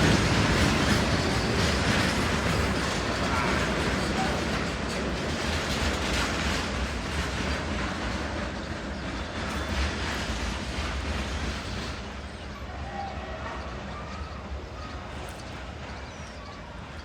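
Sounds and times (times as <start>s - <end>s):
passenger train rumbling past: 0.0s - 17.0s.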